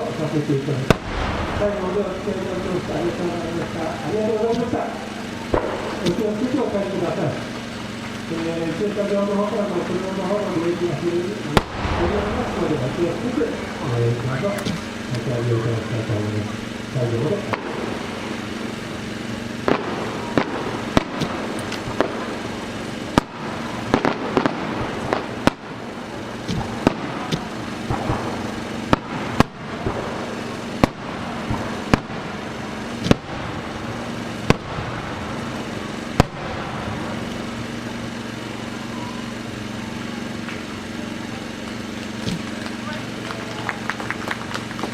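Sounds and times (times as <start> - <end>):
fireworks booming: 0.0 - 44.9
fireworks crackling: 0.0 - 44.9.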